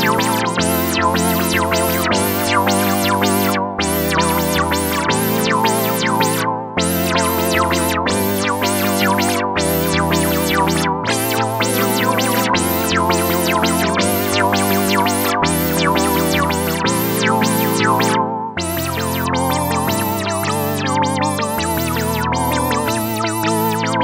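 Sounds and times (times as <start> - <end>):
synthesizer chords over bass: 0.0 - 24.0.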